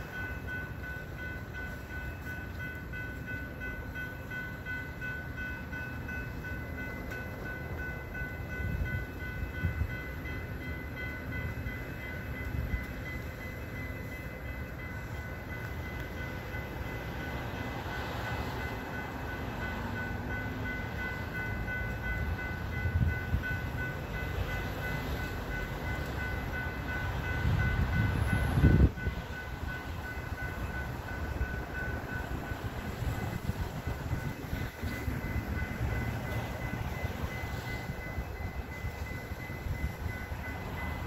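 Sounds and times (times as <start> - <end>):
crossing bells ringing: 0.0 - 41.0
train rumbling past: 0.0 - 41.0.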